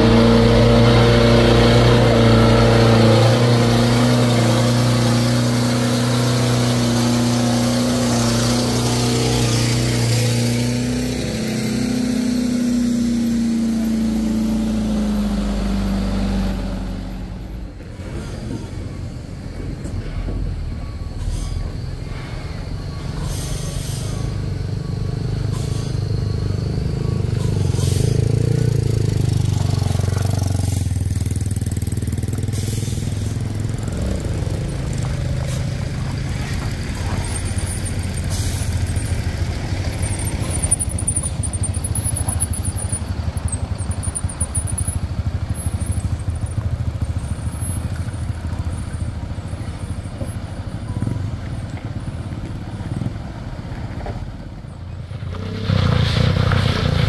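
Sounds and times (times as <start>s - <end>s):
bus engine labouring: 0.0s - 57.0s
second vehicle engine: 0.0s - 57.0s.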